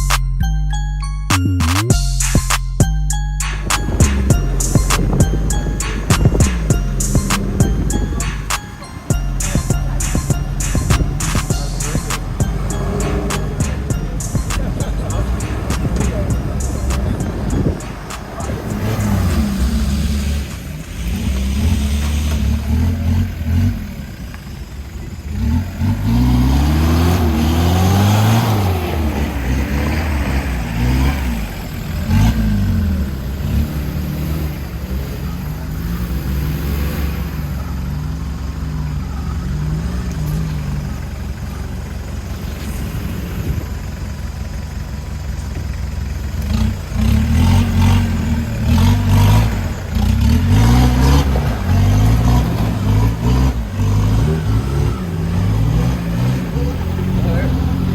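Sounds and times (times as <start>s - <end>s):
off-road vehicle engine revving: 1.4s - 57.9s.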